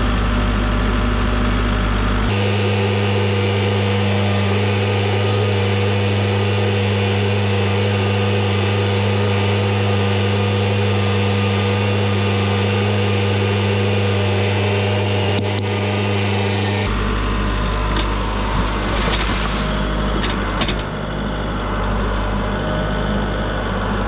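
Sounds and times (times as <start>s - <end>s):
tractor diesel engine running: 0.0s - 22.6s.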